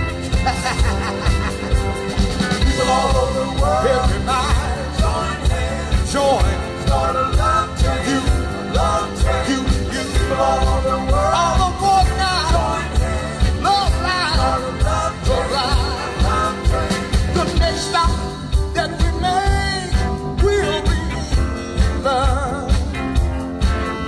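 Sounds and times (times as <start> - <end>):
live band music: 0.0 - 24.0.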